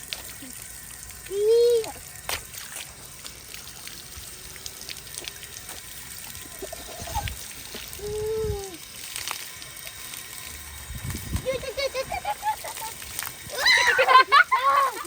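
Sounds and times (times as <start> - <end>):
shower water pouring and trickling: 0.0 - 15.0.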